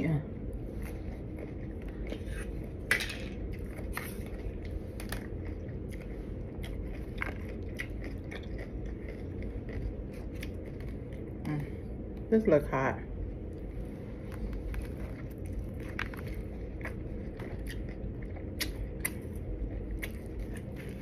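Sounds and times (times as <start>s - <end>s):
person chewing: 0.6s - 11.5s, 13.5s - 21.0s.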